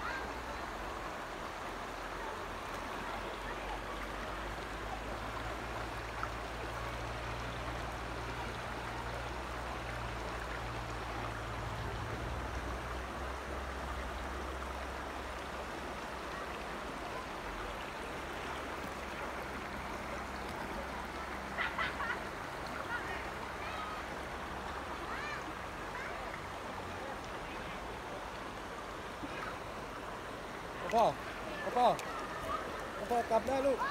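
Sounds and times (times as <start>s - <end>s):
stream running over rocks: 0.0s - 33.9s.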